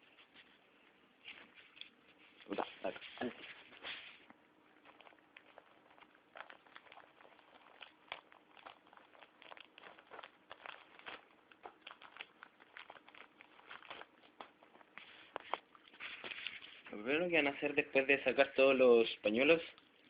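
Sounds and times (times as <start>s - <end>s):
paper tissues rustling: 0.0s - 17.8s.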